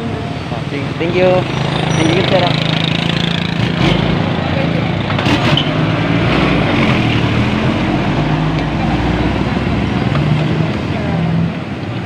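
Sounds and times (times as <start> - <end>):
road noise: 0.0 - 12.0
vehicle engines running: 0.0 - 12.0.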